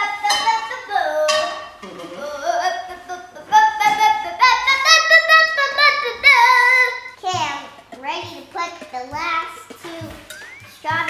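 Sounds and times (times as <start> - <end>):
girl singing: 0.0 - 11.0.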